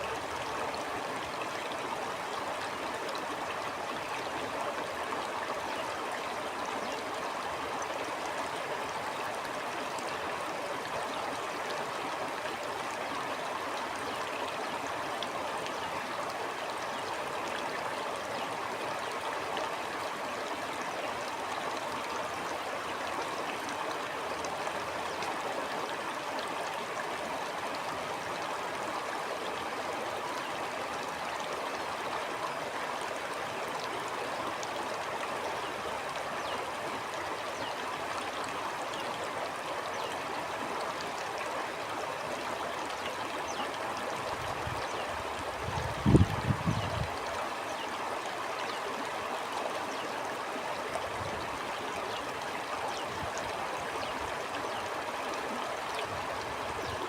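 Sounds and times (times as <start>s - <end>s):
stream water babbling: 0.0s - 57.0s.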